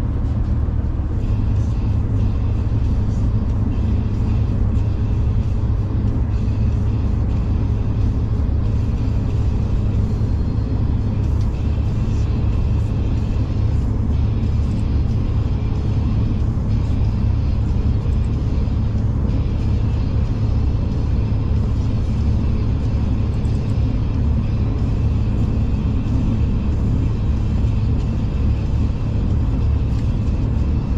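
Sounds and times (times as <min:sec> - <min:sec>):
train running heard inside carriage: 0:00.0 - 0:30.9.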